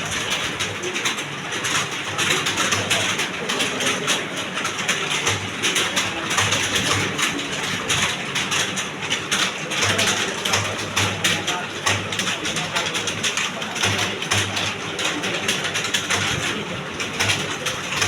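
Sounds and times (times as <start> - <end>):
keyboards clattering: 0.0 - 18.0.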